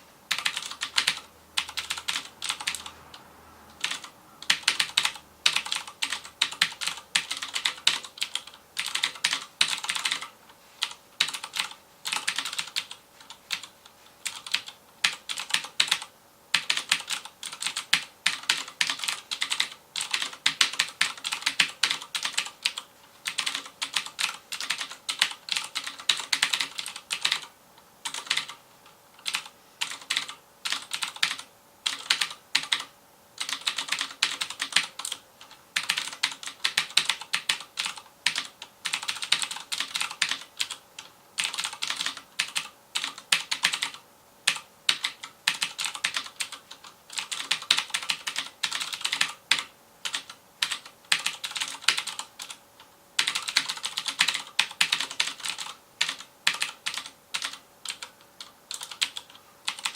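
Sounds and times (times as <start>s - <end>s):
clicky mechanical keyboard typing: 0.3s - 3.2s, 3.8s - 59.9s.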